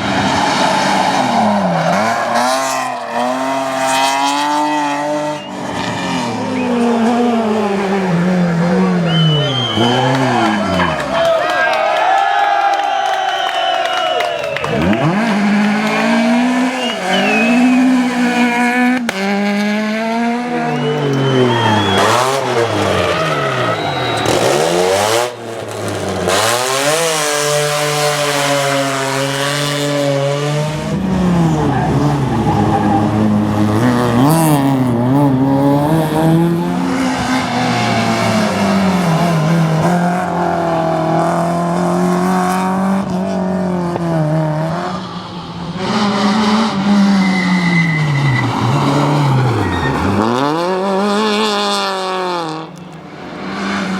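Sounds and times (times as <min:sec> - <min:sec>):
rally car engines revving: 0:00.0 - 0:11.7, 0:14.3 - 0:53.9.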